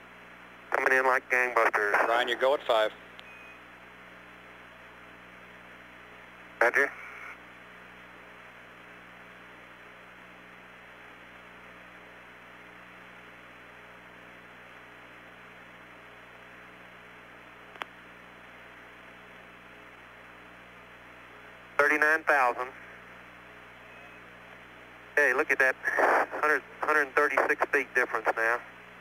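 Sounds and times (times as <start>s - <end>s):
radio static hiss and hum: 0.0s - 29.0s.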